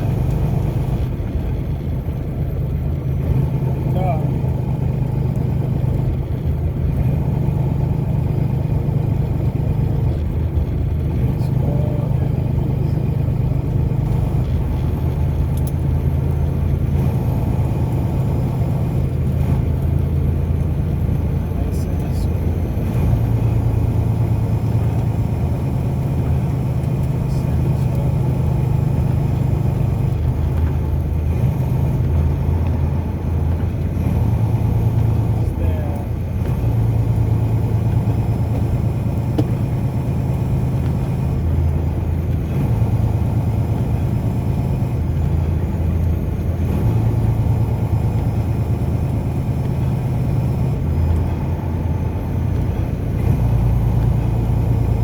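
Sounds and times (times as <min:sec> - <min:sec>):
car engine and tyres rumbling: 0:00.0 - 0:55.0
road noise: 0:00.0 - 0:55.0.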